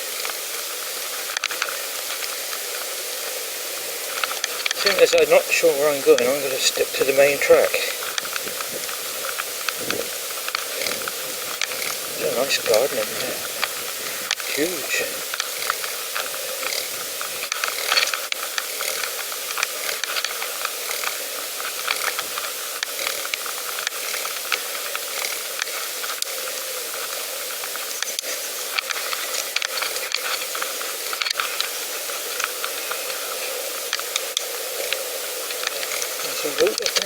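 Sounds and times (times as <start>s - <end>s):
bicycle tyres hissing: 0.0s - 37.0s
bicycle clicks and rattles: 0.1s - 3.0s, 4.0s - 37.0s.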